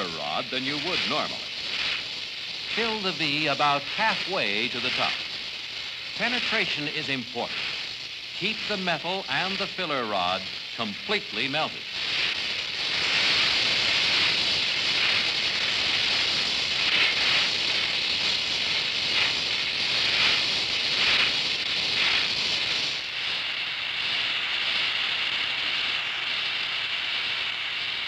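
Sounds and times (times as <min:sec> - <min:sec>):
welding torch flame hissing: 0:00.0 - 0:28.0.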